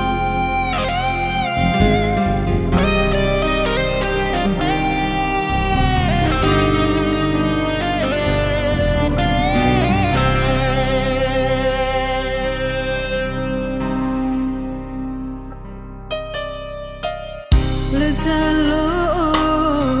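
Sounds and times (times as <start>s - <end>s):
sliding guitar melody: 0.0s - 20.0s.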